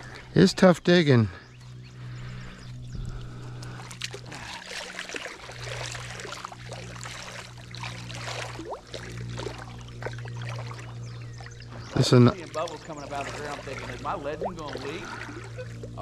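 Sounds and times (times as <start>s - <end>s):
steady low hum: 0.0s - 16.0s
water splashing and trickling: 3.0s - 16.0s.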